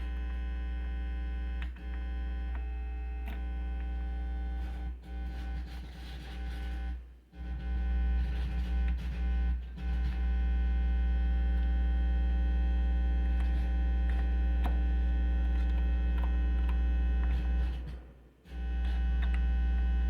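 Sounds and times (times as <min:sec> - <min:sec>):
mains hum through speakers: 0:00.0 - 0:20.0.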